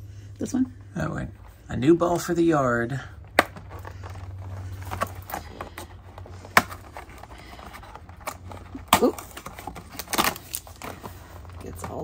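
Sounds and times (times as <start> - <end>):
cardboard rustling: 0.4 - 12.0.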